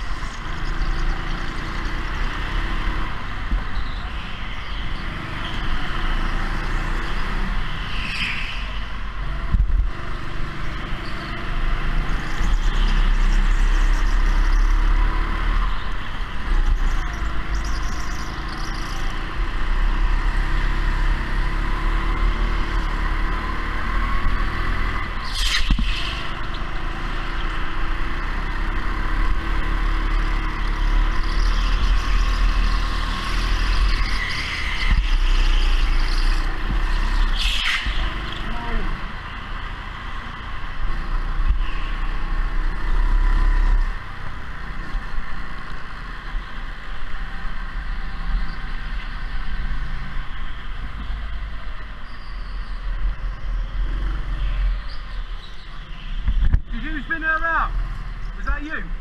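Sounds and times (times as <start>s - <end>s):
go-kart motor and tyre noise: 0.0s - 59.0s.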